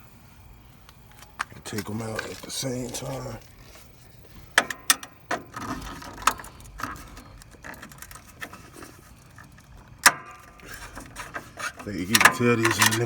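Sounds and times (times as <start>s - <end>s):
hand tools clicking and scraping: 1.1s - 13.0s.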